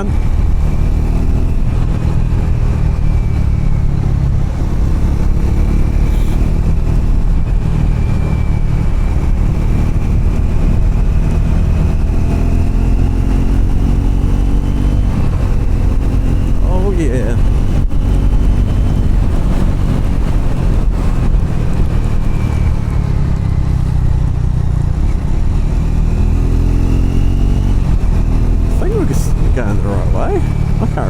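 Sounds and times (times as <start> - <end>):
loud low rumble: 0.0 - 31.0
motorcycle engine running: 0.0 - 31.0.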